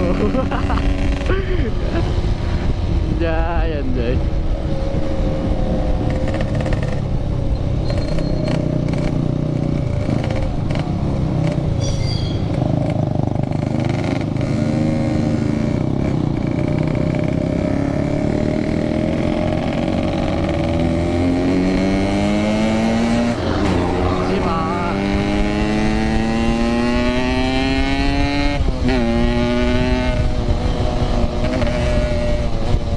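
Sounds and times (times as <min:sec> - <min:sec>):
two-stroke motorcycle engine accelerating: 0:00.0 - 0:02.0, 0:05.0 - 0:32.9
wind and road noise: 0:00.0 - 0:32.9.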